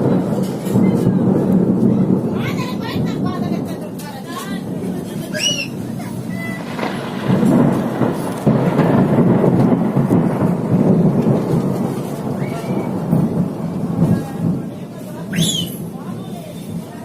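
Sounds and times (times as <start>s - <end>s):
rolling thunder: 0.0s - 17.0s.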